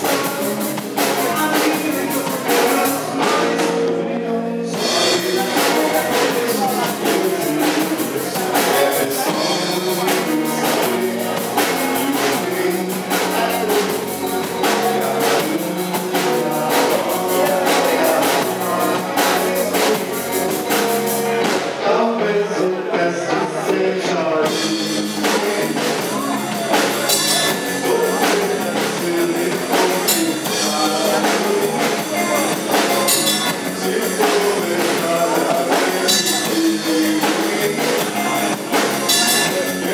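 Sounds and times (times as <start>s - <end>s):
drum kit beat: 0.0s - 21.8s, 24.4s - 39.9s
electric bass: 0.0s - 39.9s
electric guitars: 0.0s - 39.9s
man singing: 0.0s - 39.9s.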